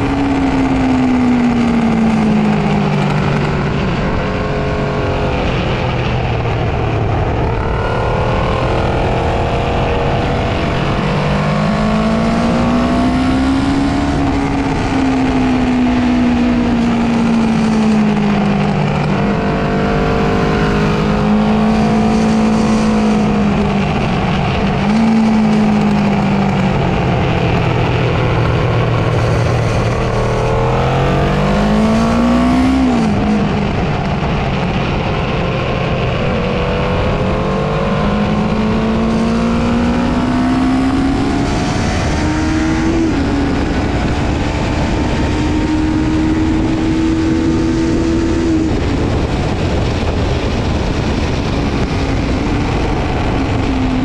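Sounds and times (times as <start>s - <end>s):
motorcycle engine revving: 0.0s - 54.0s
rush of air noise: 0.0s - 54.0s.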